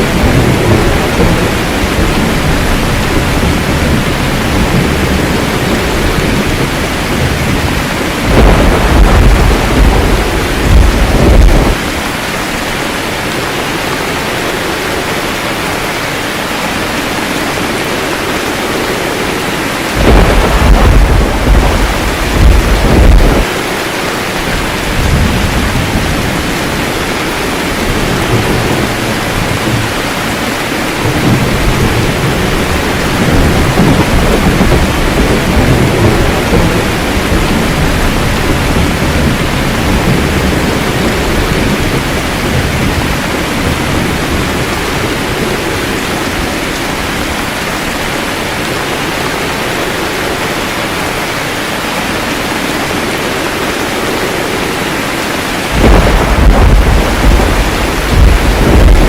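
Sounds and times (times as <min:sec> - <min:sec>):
rolling thunder: 0:00.0 - 0:12.7, 0:17.7 - 0:50.5, 0:53.0 - 0:59.0
steady rain: 0:00.0 - 0:59.0.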